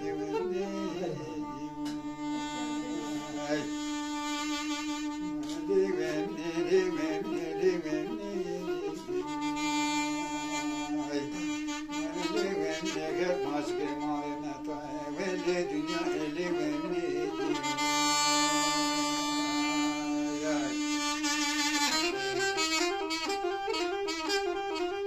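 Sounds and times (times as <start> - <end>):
held drone note: 0.0 - 25.0
reed pipe melody: 0.0 - 25.0.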